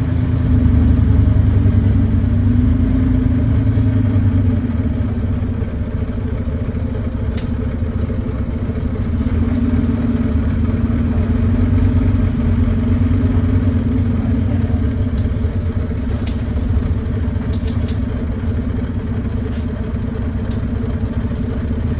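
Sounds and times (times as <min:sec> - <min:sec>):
bus diesel engine droning: 0:00.0 - 0:21.9.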